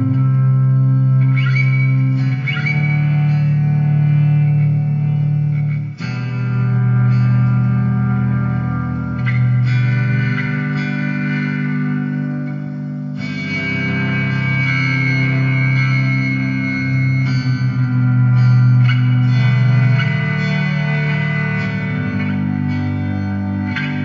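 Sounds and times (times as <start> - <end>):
electric guitar with effects: 0.0 - 24.0.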